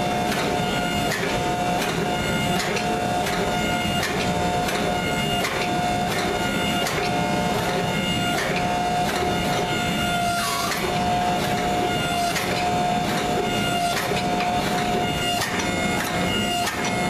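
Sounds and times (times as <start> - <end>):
hydraulic pump motor whining: 0.0 - 17.0.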